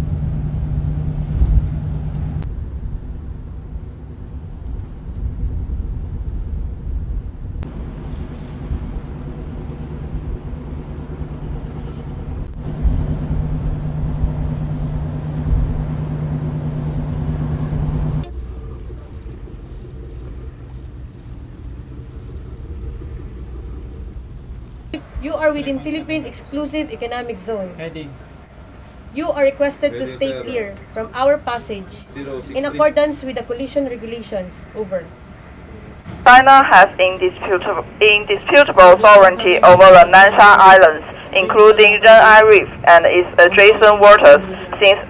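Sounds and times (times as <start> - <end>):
deep hum: 0.0 - 44.8
boat engine rumble: 0.0 - 45.0.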